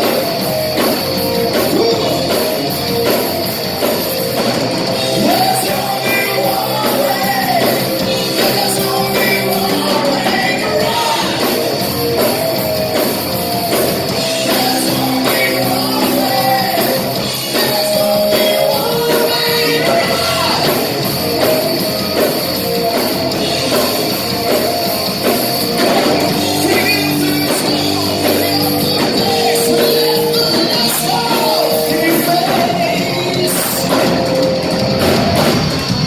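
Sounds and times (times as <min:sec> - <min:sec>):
rock band with singer: 0:00.0 - 0:36.0.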